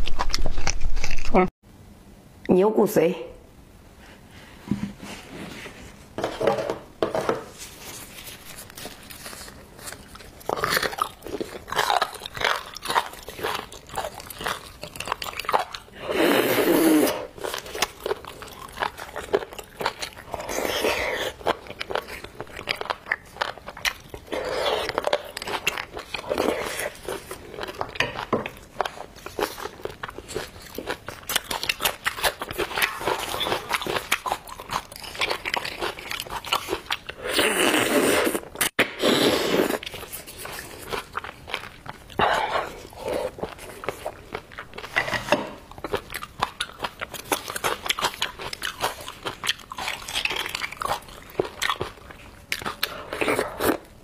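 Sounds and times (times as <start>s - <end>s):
chewing: 8.3s - 16.1s, 16.9s - 38.7s, 39.6s - 53.9s.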